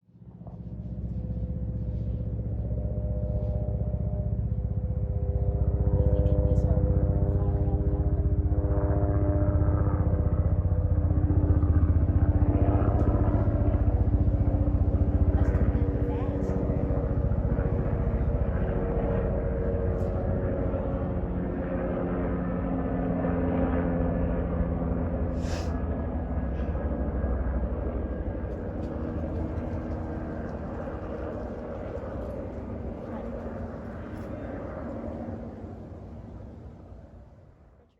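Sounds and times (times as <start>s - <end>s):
helicopter flying by: 0.0s - 37.9s.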